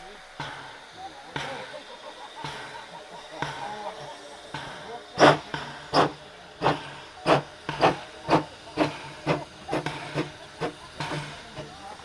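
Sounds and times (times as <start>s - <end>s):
steam locomotive chuffing: 0.0s - 12.0s.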